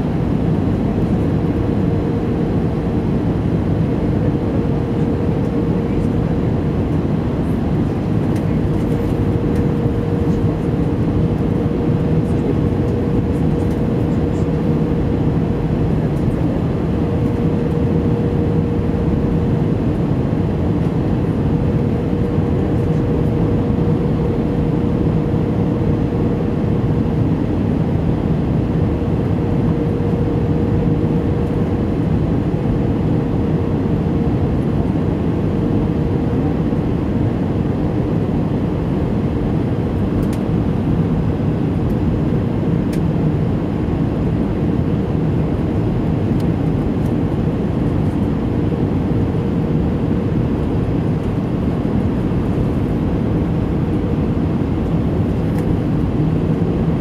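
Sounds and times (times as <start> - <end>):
aircraft engine drone: 0.0 - 57.0
constant mid-pitched hum: 0.0 - 57.0.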